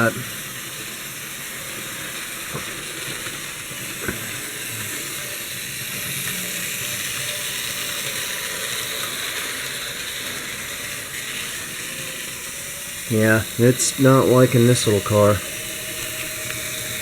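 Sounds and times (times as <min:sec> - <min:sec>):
model locomotive whirring: 0:00.0 - 0:17.0.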